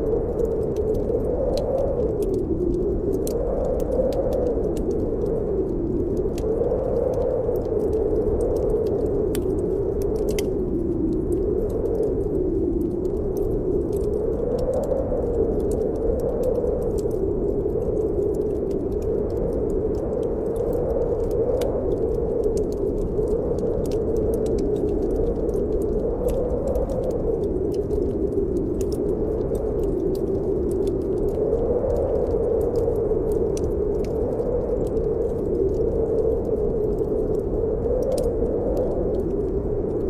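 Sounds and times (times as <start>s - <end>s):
wind howling: 0.0s - 40.0s
wood fire crackling and popping: 0.0s - 40.0s.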